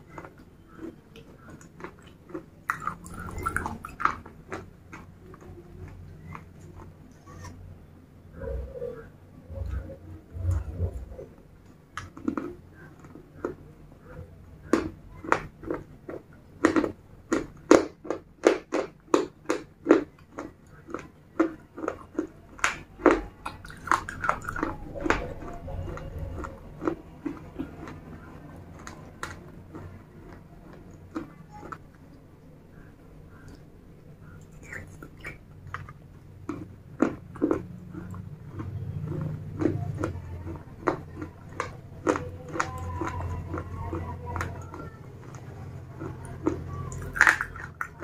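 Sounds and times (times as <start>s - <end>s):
person chewing crunchy slate: 0.0s - 7.6s, 9.6s - 48.0s.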